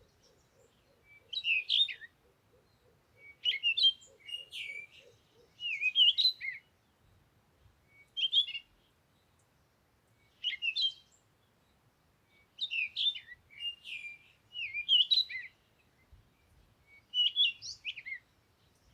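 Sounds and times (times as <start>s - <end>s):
songbird singing: 0.0s - 18.9s.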